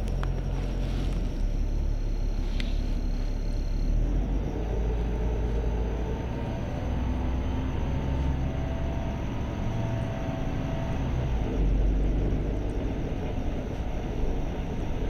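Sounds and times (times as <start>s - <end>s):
bus engine rumble: 0.0s - 15.0s
faint whine shifting in pitch: 0.0s - 15.0s.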